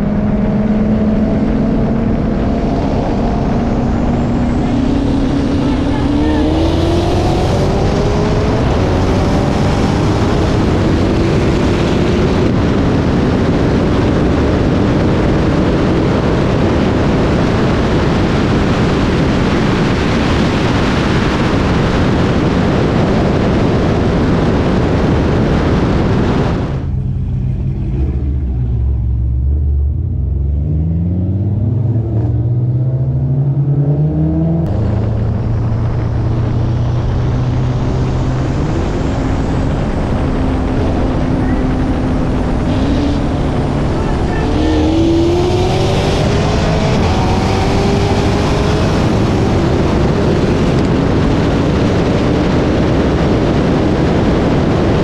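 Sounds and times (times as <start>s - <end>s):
race car engine at full throttle: 0.0s - 55.0s
wind rush: 0.0s - 55.0s.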